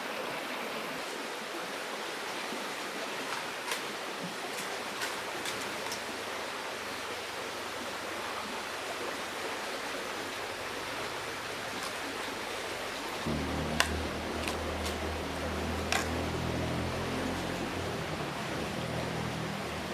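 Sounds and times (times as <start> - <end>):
flowing river water: 0.0 - 19.9.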